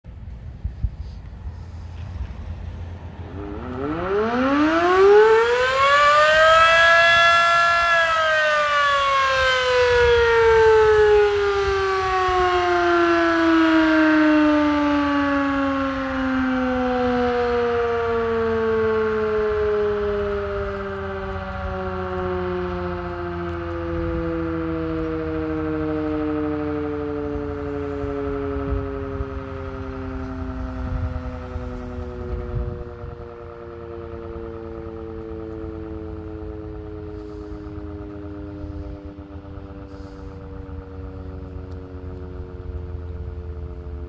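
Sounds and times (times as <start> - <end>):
warning siren winding up and down: 1.6 - 44.0.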